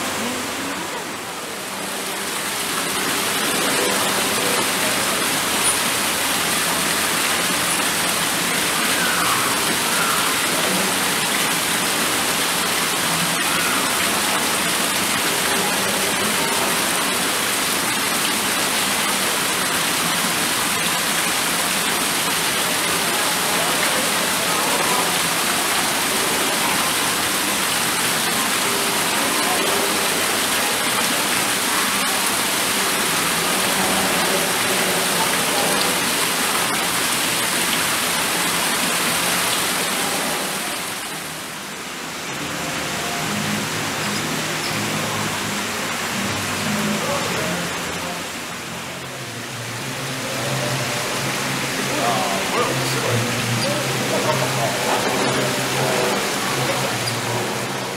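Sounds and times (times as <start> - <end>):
falling water rushing: 0.0 - 57.9.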